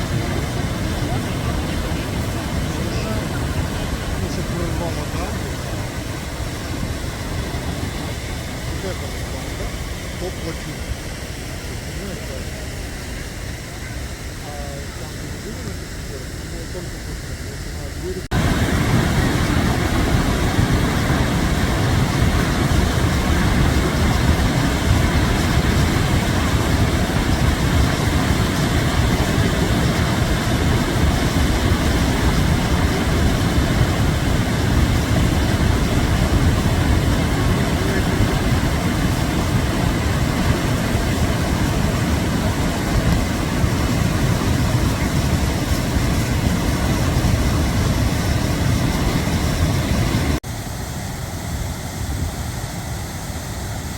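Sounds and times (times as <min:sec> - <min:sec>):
floodwater rushing: 0:00.0 - 0:53.9.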